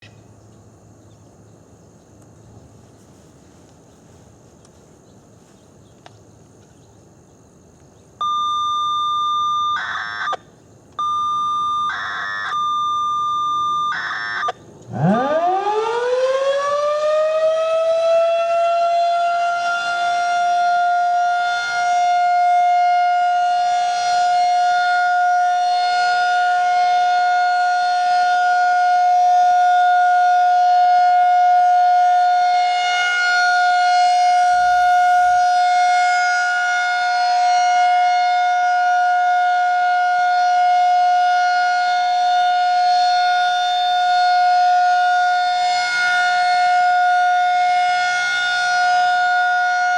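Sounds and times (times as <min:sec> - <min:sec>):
warning siren steady tone: 0:08.2 - 0:49.9.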